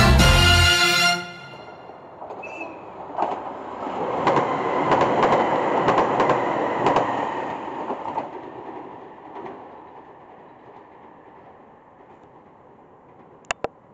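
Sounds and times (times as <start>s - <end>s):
train running noise: 0.0s - 13.6s.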